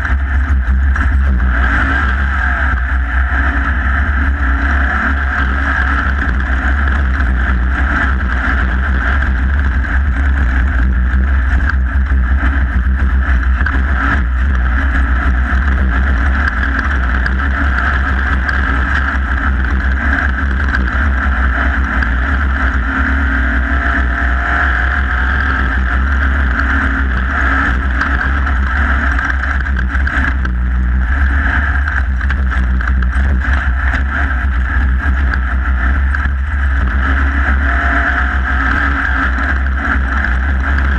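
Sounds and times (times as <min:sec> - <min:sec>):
race vehicle engine running: 0:00.0 - 0:40.9.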